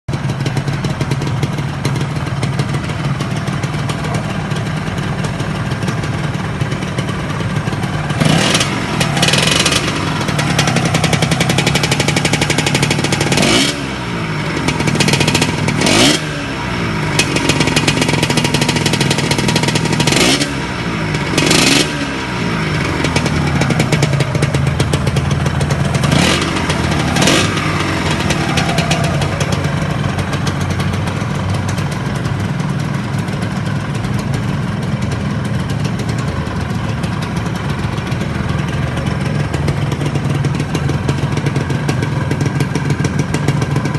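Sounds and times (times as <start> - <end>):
two-stroke engine idling and revving: 0.1 - 43.9.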